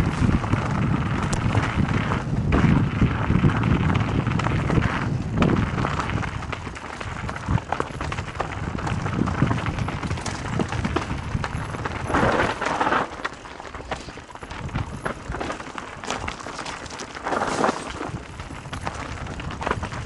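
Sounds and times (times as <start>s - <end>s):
bike clicks and rattles: 0.0s - 20.0s
bike tyres rolling on dirt: 0.0s - 20.0s.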